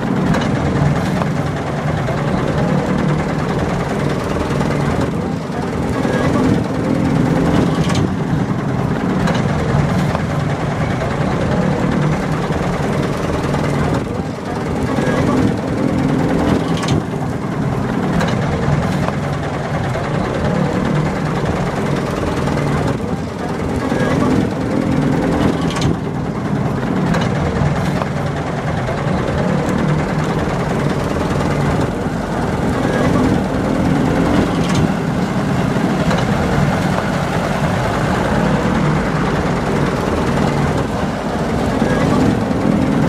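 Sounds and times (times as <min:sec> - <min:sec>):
engine running at low revs: 0:00.0 - 0:43.0.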